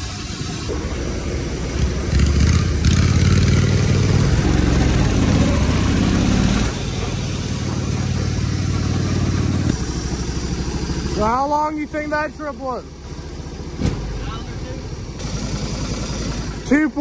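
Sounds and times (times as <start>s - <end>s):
riding mower engine running: 0.0s - 17.0s.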